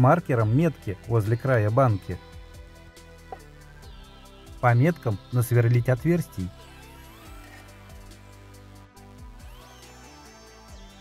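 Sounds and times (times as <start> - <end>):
quiet electronic background music: 0.0 - 11.0.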